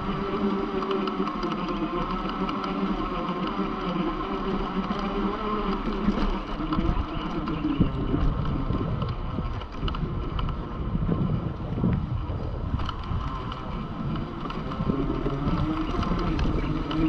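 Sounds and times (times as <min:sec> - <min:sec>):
electric motorbike motor whining: 0:00.0 - 0:17.0
wind buffeting microphone: 0:00.0 - 0:17.0.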